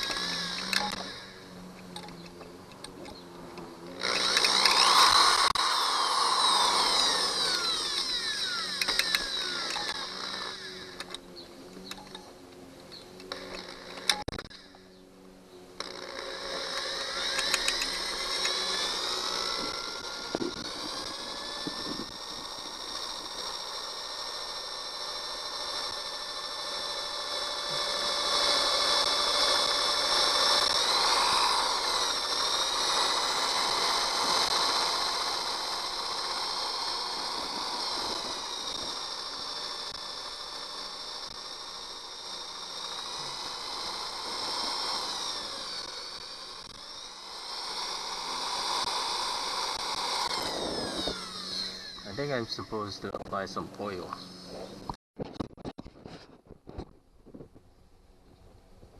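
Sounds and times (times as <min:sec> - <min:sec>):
electric drill whining under load: 0:00.0 - 0:55.0.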